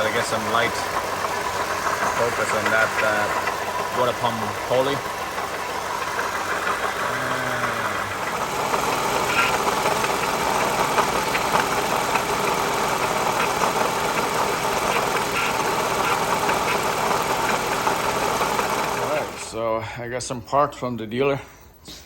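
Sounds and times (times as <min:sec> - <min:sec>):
engine idling: 0:00.0 - 0:20.0
faint engine ticking: 0:00.0 - 0:20.0.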